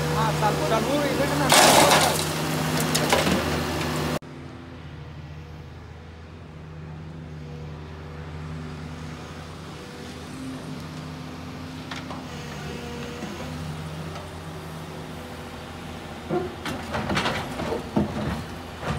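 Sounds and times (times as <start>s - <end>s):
steady engine hum: 0.0s - 18.9s.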